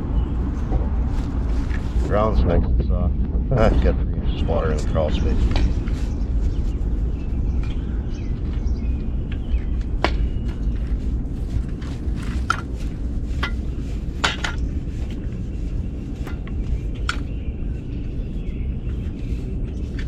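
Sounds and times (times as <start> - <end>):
low rumble: 0.0 - 20.0
tools scraping soft ground: 0.4 - 2.5, 4.5 - 20.0.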